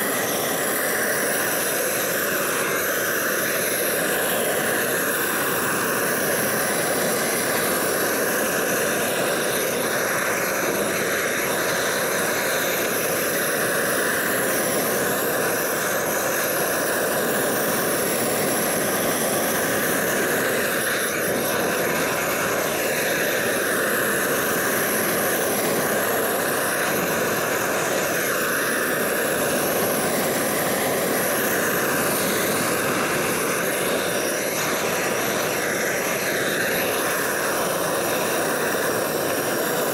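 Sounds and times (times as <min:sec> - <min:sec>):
gas torch roaring: 0:00.0 - 0:39.9.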